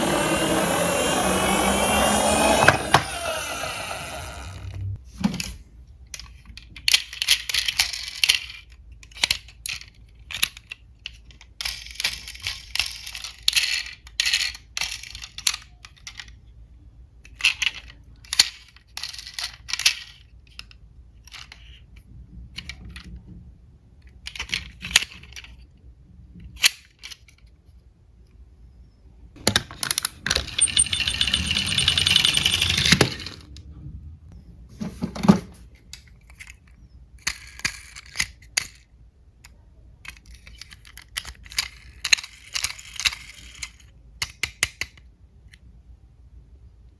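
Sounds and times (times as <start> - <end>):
toy cars clicking and clattering: 0.0 - 4.7, 6.1 - 16.6, 17.2 - 22.0, 22.6 - 23.2, 24.0 - 25.7, 26.4 - 27.8, 29.4 - 33.6, 35.8 - 45.6.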